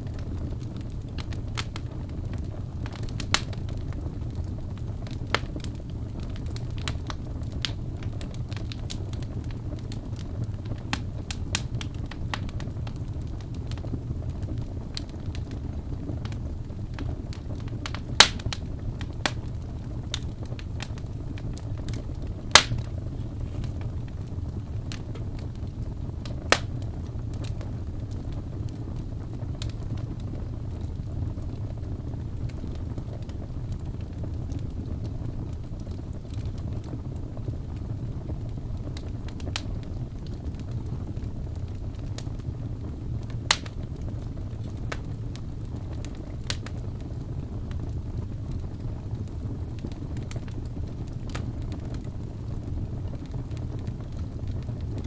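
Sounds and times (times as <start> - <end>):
fire crackling and popping: 0.0 - 55.0
flames rumbling: 0.0 - 55.0.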